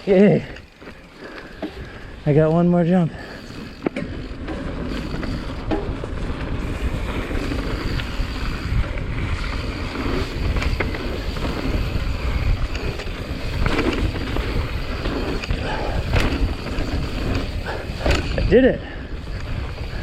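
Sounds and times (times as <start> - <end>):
tyres rolling on dirt: 0.0 - 20.0
wind buffeting microphone: 0.0 - 20.0
bike clicks and knocks: 0.2 - 2.7, 3.3 - 18.6.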